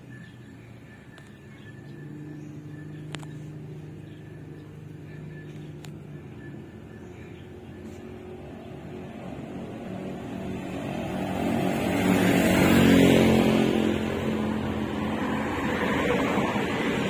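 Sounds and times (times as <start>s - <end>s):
motor vehicle passing by: 0.0s - 17.0s.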